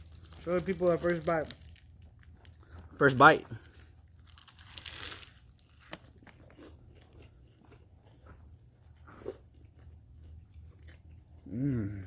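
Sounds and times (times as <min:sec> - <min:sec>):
faint crunching and chewing: 0:00.0 - 0:12.0.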